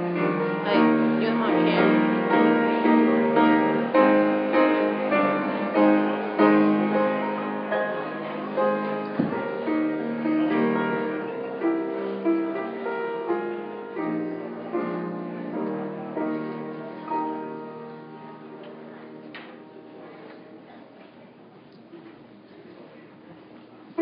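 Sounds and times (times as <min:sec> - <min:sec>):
slow instrumental music: 0:00.0 - 0:20.2.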